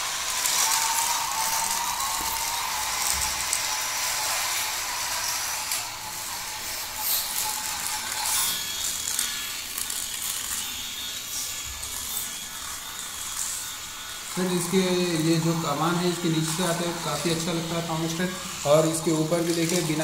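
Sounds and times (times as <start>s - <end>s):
gears and wheels rattling: 0.0s - 20.0s
toy train motor whining: 0.0s - 20.0s.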